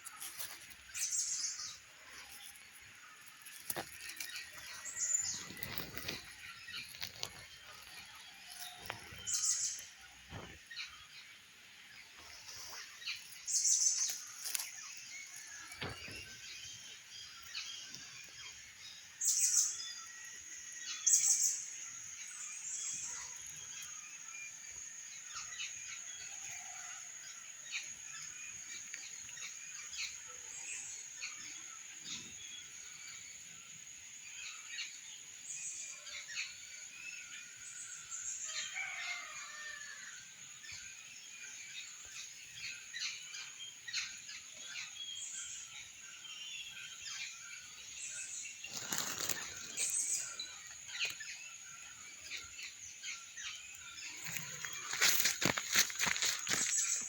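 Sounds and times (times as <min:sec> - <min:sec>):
birds chirping: 0:00.0 - 0:26.9, 0:27.5 - 0:57.0.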